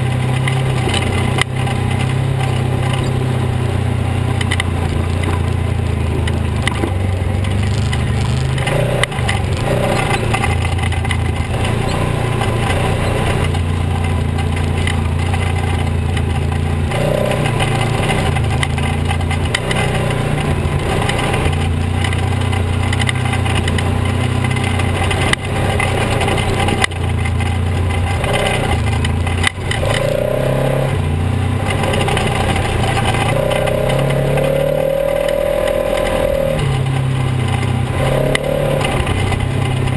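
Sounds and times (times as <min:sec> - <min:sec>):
off-road vehicle engine under load: 0:00.0 - 0:39.9.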